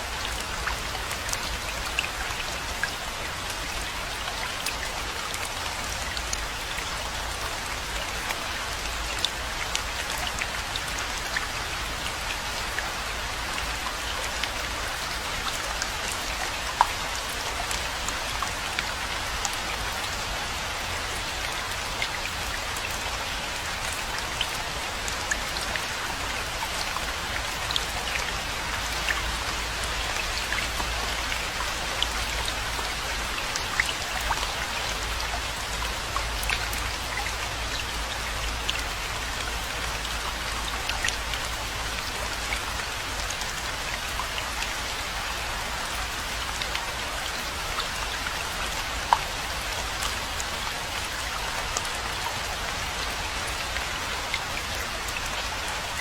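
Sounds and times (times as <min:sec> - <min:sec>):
rainfall hiss: 0:00.0 - 0:56.0.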